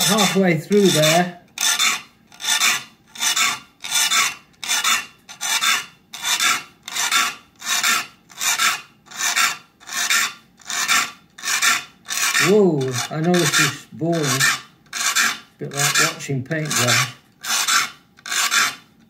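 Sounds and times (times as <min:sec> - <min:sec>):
file rasping on saw teeth: 0:00.0 - 0:18.9.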